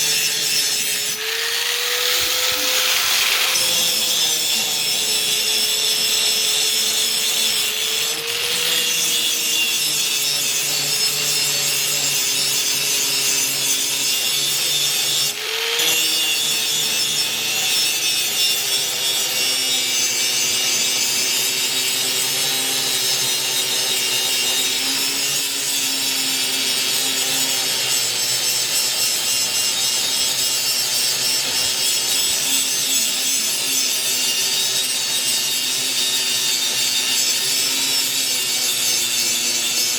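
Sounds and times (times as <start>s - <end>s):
grinder motor whine: 0.0s - 13.2s, 13.8s - 34.4s
grinder grinding steel: 0.0s - 39.9s.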